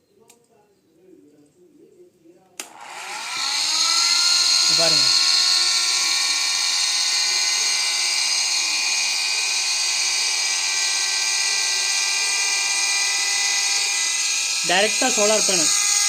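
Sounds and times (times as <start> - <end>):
mixer grinder motor whining: 2.6 - 16.0.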